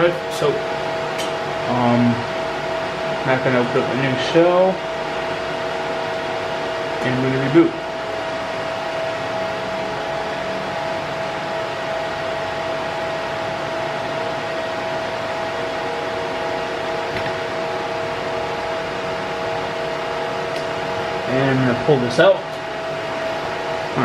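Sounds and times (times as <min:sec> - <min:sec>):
cooling fans humming: 0:00.0 - 0:24.0.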